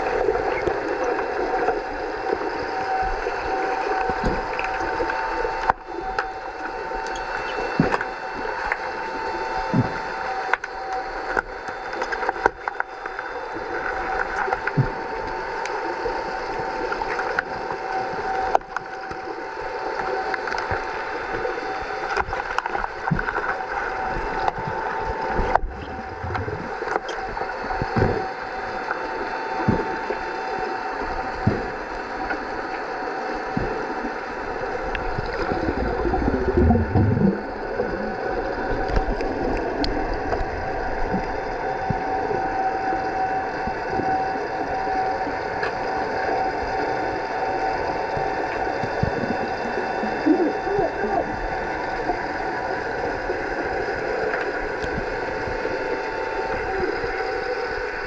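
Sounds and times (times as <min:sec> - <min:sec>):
bubbling gurgles: 0:00.0 - 0:58.0
steady underwater hum: 0:00.0 - 0:58.0.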